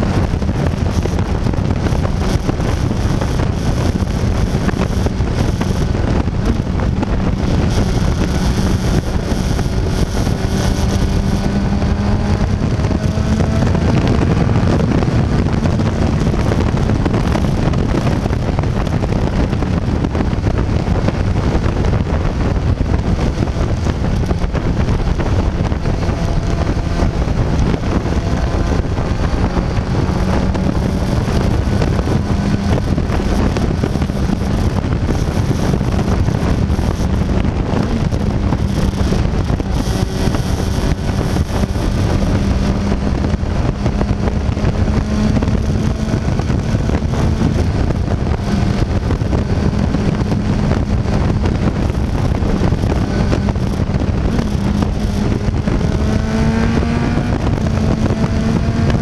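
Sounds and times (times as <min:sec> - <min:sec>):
motorcycle engine drone: 0:00.0 - 0:59.0
wind noise on microphone: 0:00.0 - 0:59.0.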